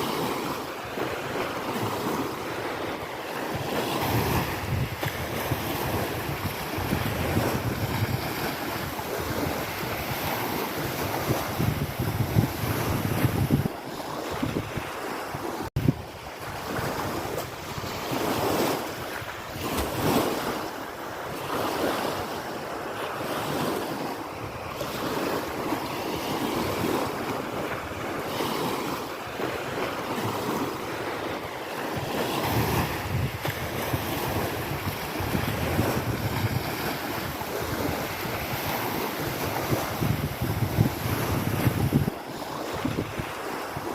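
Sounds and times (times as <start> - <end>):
wind buffeting microphone: 0.0 - 22.4, 23.4 - 43.9
small waves washing on shore: 0.0 - 43.9.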